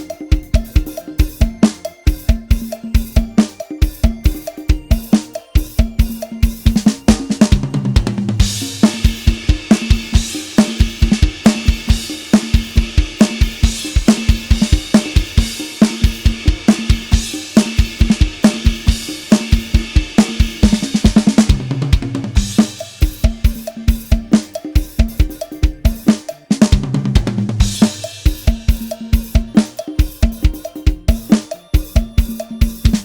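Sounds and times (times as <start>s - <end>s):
crashing cymbals: 0.0s - 26.8s, 27.5s - 33.0s
drum kit fast beat: 0.0s - 33.0s
tom drum fills: 0.0s - 33.0s.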